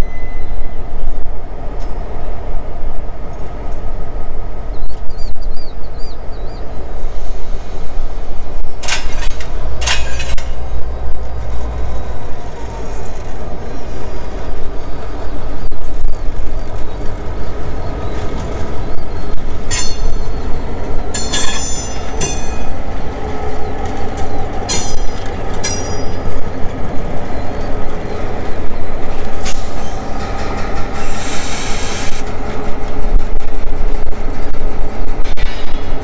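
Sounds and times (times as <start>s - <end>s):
freight train rumble: 0.0s - 36.0s.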